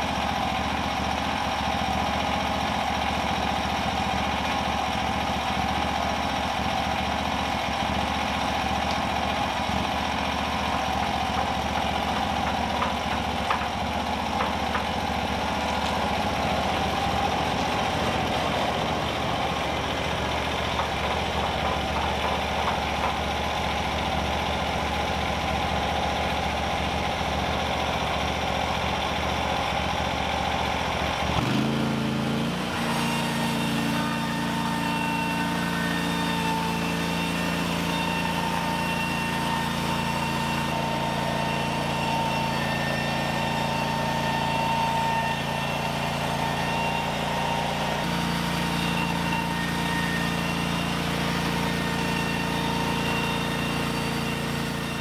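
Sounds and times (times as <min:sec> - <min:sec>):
gasoline engine running sawmill: 0:00.0 - 0:55.0
saw cutting log: 0:00.0 - 0:55.0.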